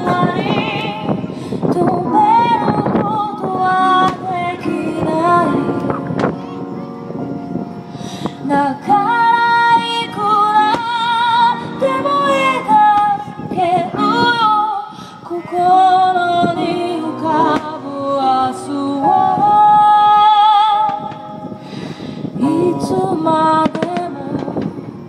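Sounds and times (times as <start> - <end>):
woman singing with vibrato: 0.0 - 6.0, 8.3 - 21.6, 22.2 - 25.0
instrumental backing music: 0.0 - 25.0.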